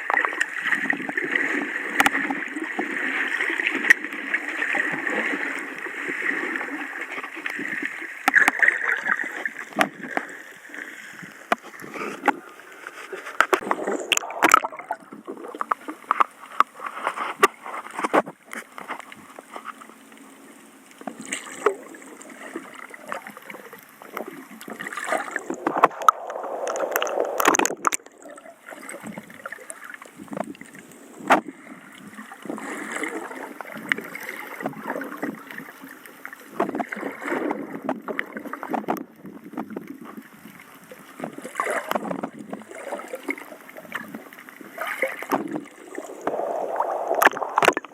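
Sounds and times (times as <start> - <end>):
seawater sloshing and gurgling: 0.0 - 47.9.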